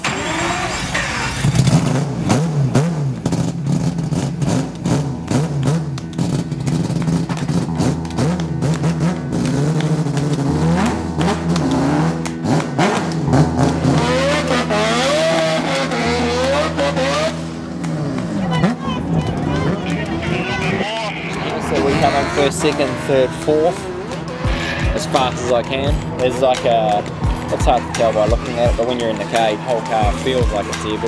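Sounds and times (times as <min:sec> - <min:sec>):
rotary engine revving with crackles: 0:00.0 - 0:31.0
music: 0:05.0 - 0:31.0.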